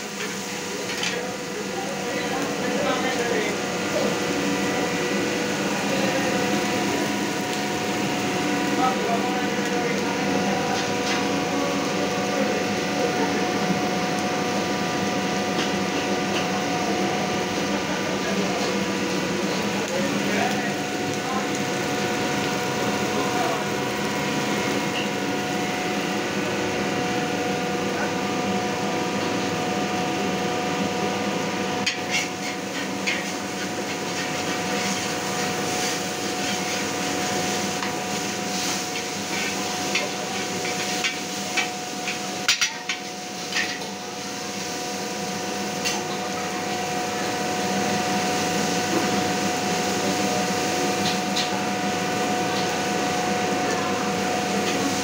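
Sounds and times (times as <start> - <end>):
rushing hum of kitchen noise: 0.0 - 55.0.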